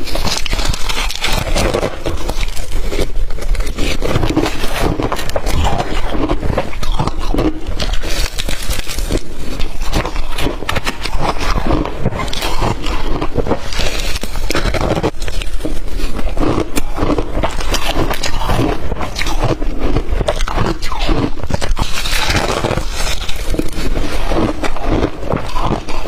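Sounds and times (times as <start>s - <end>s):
crunching ice in the mouth: 0.0s - 26.0s.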